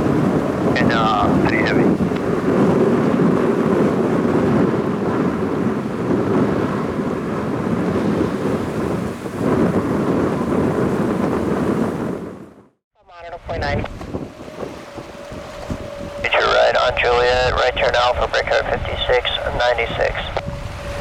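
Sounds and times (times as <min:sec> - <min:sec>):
jet airliner engines roaring: 0:00.0 - 0:12.4, 0:13.2 - 0:21.0.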